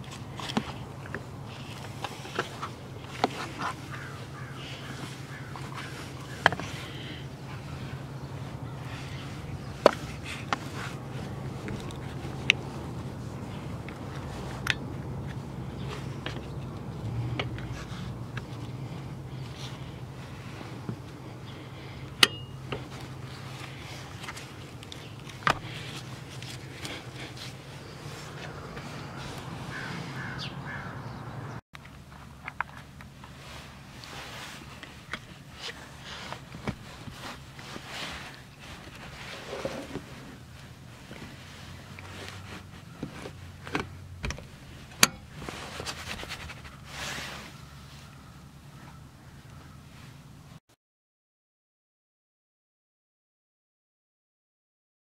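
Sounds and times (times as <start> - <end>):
seat belt strap rustling: 0.0 - 29.9, 31.9 - 48.3
steady low hum: 0.0 - 50.6.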